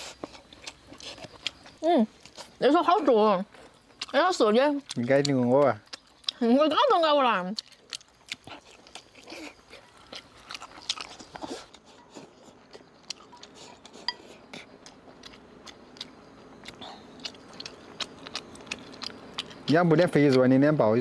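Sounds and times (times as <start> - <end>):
chewing: 0.0 - 20.5.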